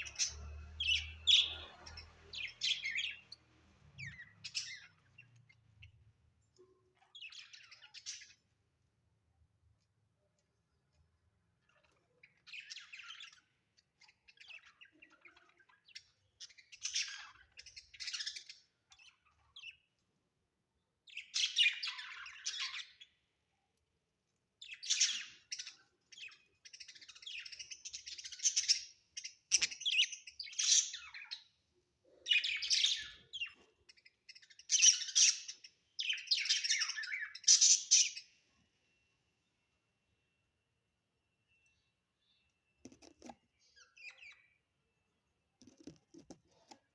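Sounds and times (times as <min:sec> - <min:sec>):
budgerigars chirping and chattering: 0:00.0 - 0:09.2, 0:09.8 - 0:23.4, 0:24.4 - 0:38.5, 0:42.8 - 0:44.6.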